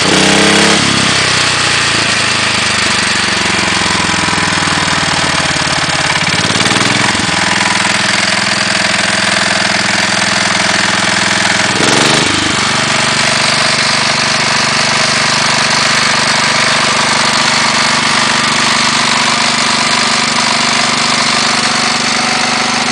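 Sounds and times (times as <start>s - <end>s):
tractor engine running with knock: 0.0s - 22.9s.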